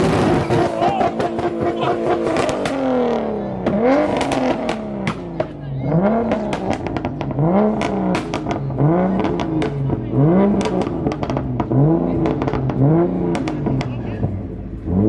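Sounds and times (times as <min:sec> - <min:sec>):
car engine revving: 0:00.0 - 0:15.0
exhaust pops and crackles: 0:00.0 - 0:15.0.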